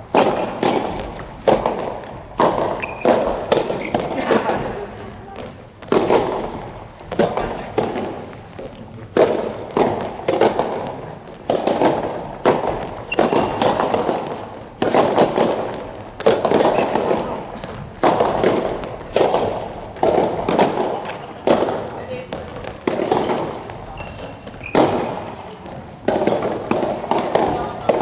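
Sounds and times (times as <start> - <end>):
rackets hitting ball: 0.0 - 28.0.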